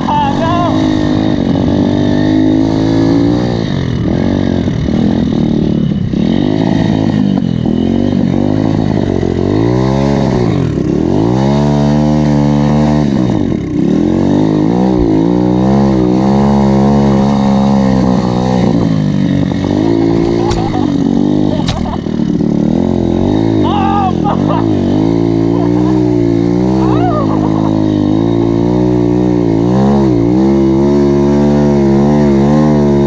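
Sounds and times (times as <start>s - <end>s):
pit bike engine revving: 0.0s - 33.0s.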